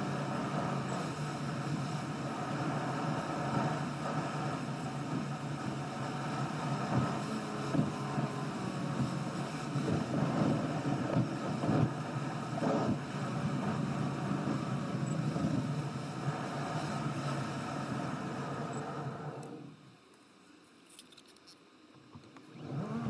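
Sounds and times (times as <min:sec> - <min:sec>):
car engine and road rumble: 0:00.0 - 0:19.8.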